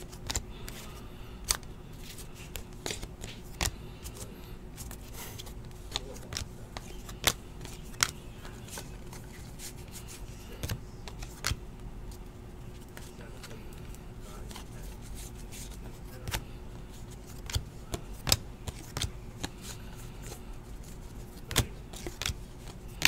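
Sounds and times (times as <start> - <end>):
cards flipping and clicking: 0.0 - 23.0
faint hum: 0.0 - 23.0.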